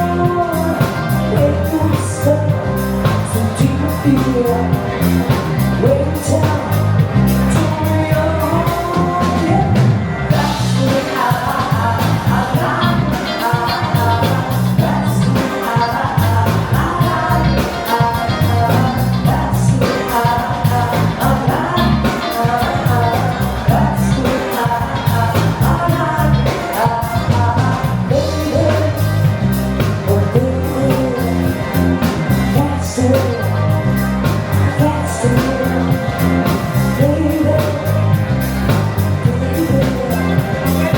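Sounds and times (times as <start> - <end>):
pop-rock song with singing: 0.0 - 40.9.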